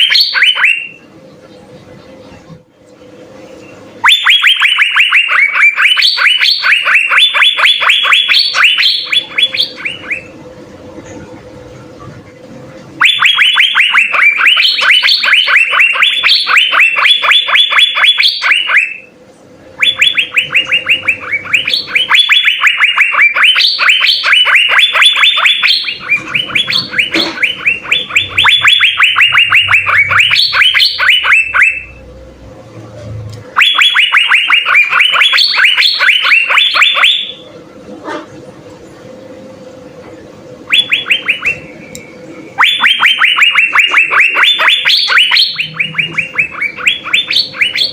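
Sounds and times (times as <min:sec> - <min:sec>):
bird singing rapid repeated notes: 0:00.0 - 0:02.4, 0:03.4 - 0:10.5, 0:13.0 - 0:32.0, 0:33.5 - 0:37.5, 0:40.6 - 0:47.9.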